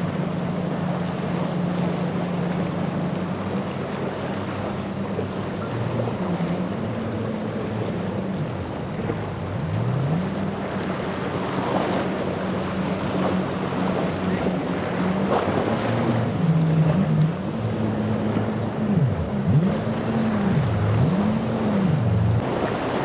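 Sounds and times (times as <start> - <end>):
outboard engines running: 0.0 - 23.0.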